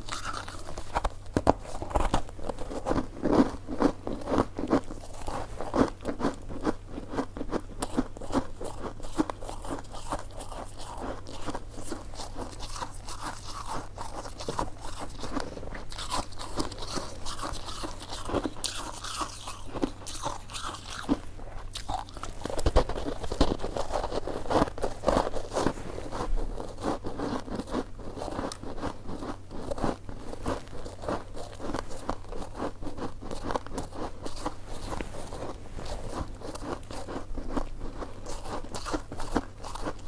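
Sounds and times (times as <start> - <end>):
person biting and chewing: 0.0 - 40.0.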